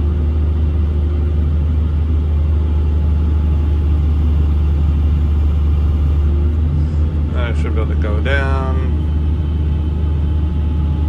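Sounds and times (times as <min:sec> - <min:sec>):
excavator diesel engine drone: 0:00.0 - 0:11.0.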